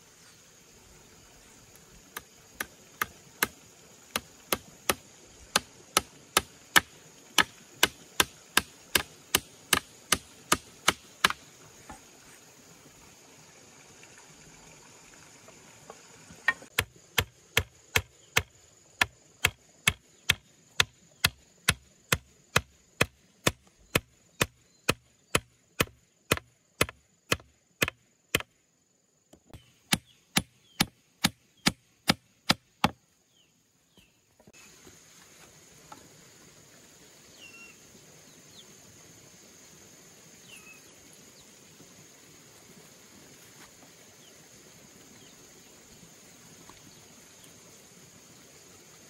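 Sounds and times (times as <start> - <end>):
insects buzzing: 0.0 - 49.0.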